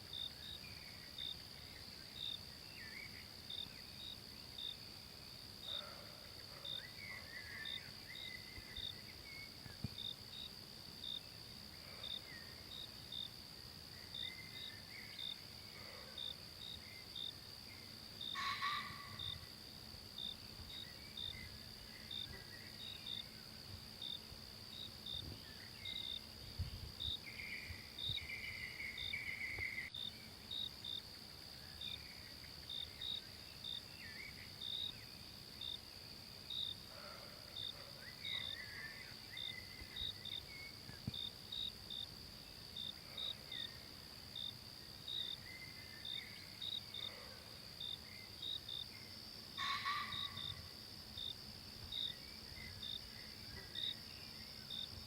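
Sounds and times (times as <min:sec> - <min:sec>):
insect chirping: 0:00.0 - 0:55.0
insects droning: 0:00.0 - 0:55.0.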